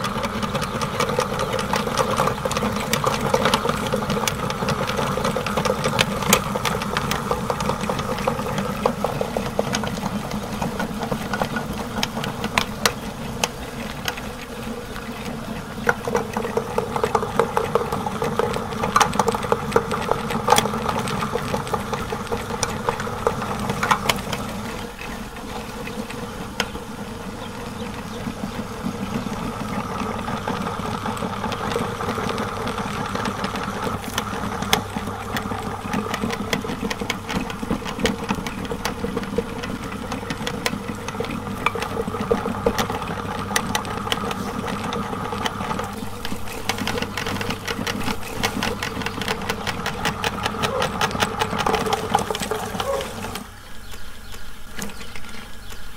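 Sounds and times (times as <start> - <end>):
meat grinder motor hum: 0.0 - 55.9.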